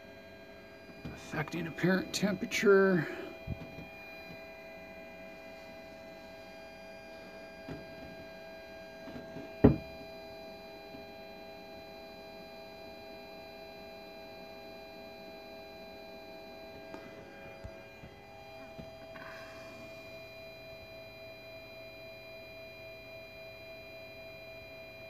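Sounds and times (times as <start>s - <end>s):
furnace humming: 0.0s - 25.0s.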